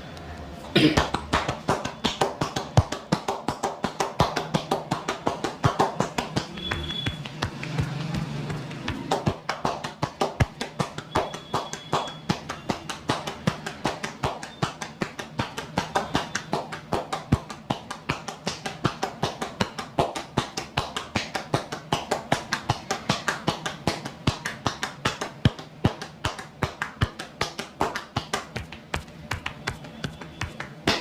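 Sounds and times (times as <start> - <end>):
hands slapping on body: 0.8 - 31.0.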